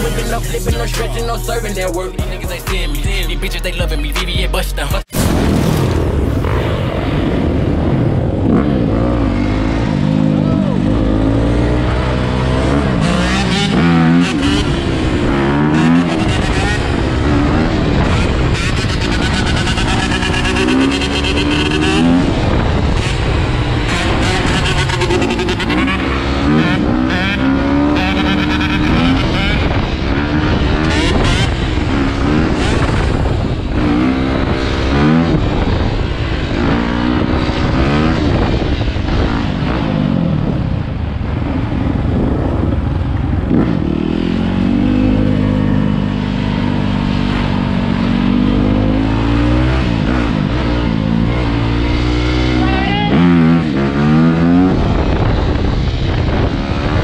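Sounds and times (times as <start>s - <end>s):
dirt bike engine revving: 6.4s - 57.0s
motorcycle engines: 6.4s - 57.0s.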